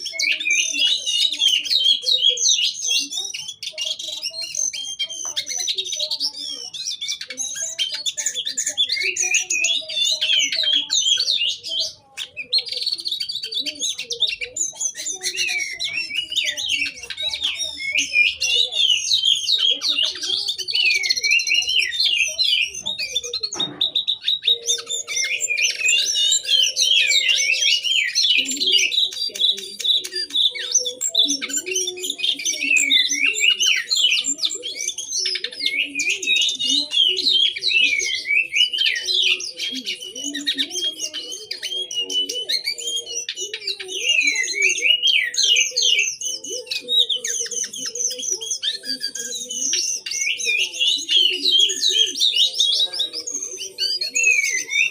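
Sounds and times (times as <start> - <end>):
songbird whistling: 0.0 - 54.9.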